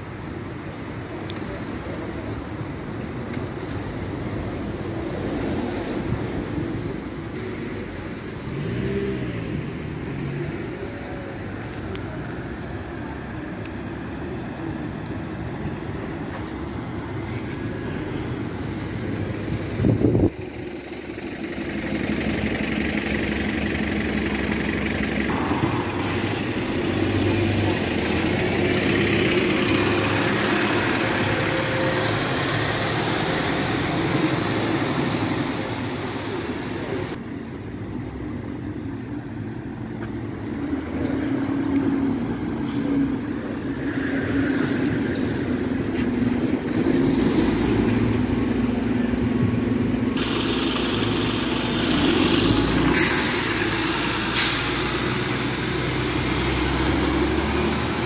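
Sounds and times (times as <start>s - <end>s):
bus engine pulling away: 0.0s - 58.0s
traffic noise: 0.0s - 58.0s.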